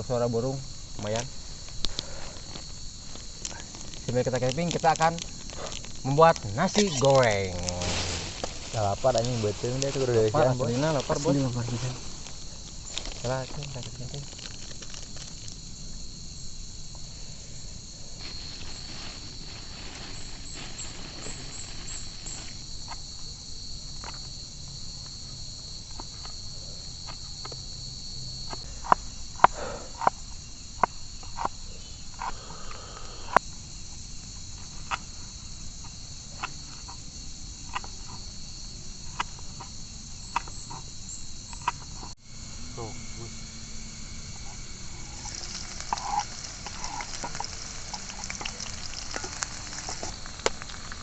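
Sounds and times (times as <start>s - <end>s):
high-pitched insect drone: 0.0s - 51.0s.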